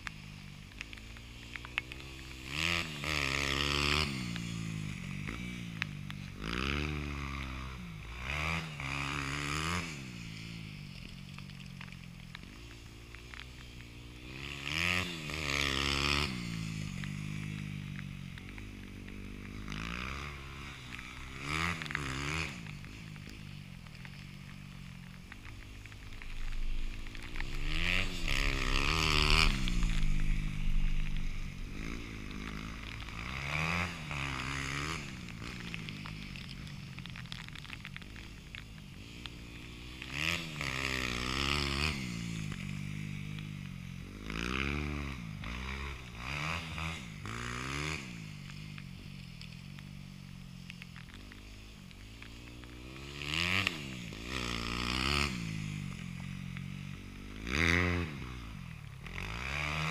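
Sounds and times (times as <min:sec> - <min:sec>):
dirt bike engine revving: 0:00.0 - 0:11.4, 0:12.2 - 0:59.9.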